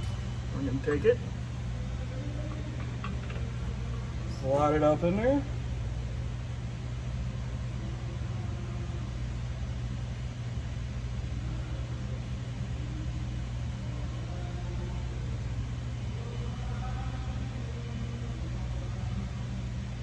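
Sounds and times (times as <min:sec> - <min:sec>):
machinery humming: 0:00.0 - 0:20.0.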